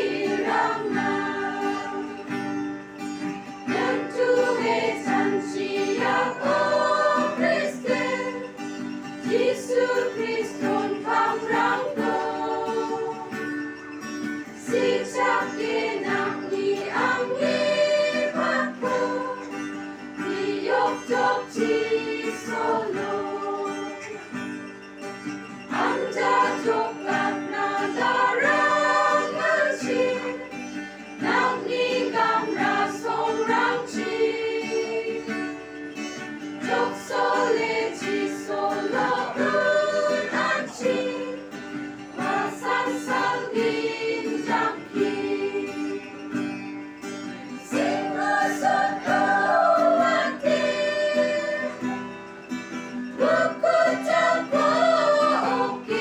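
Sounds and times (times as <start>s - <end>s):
choir singing a hymn: 0.0s - 2.6s, 3.6s - 13.6s, 14.5s - 24.1s, 25.7s - 35.8s, 36.6s - 46.7s, 47.6s - 52.2s, 53.1s - 56.0s.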